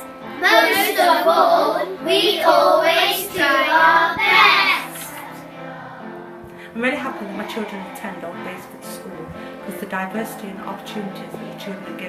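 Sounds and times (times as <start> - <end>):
background music: 0.0 - 12.0
children singing together: 0.0 - 12.0.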